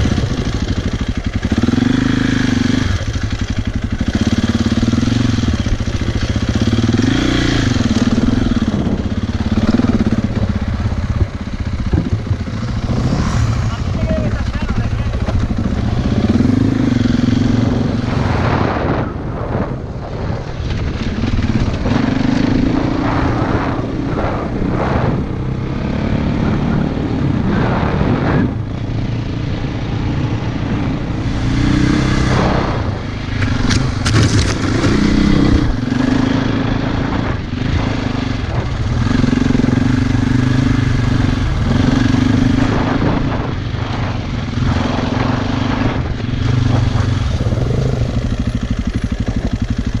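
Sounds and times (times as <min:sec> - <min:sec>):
dirt bike engine: 0:00.0 - 0:50.0
wind rushing: 0:00.0 - 0:50.0.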